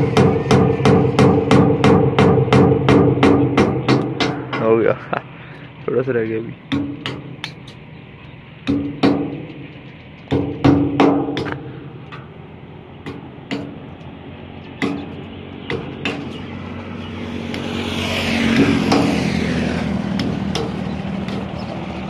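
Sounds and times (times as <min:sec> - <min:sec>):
vehicle engine: 0:00.0 - 0:22.0.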